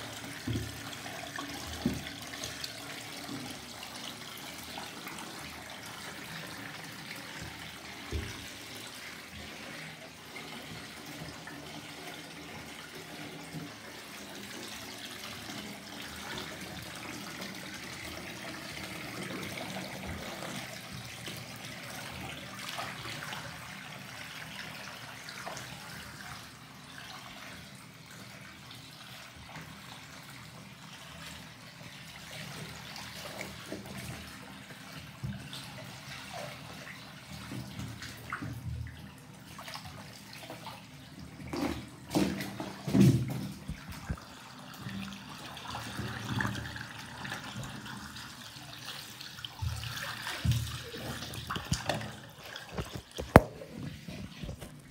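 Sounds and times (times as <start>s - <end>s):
water sloshing in a bathtub: 0.0s - 54.9s.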